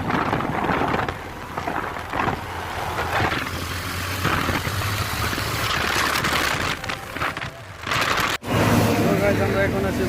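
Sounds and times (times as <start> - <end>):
motorcycle engine humming: 0.0 - 10.0
road and wind noise: 0.0 - 10.0.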